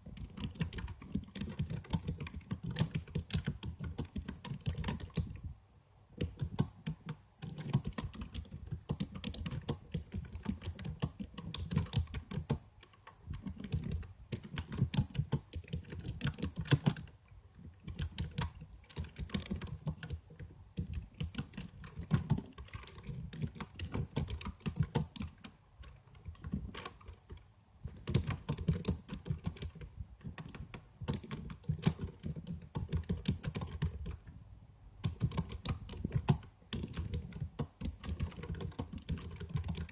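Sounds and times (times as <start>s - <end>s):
computer keyboard typing: 0.0s - 5.4s, 6.2s - 34.3s, 35.0s - 39.9s.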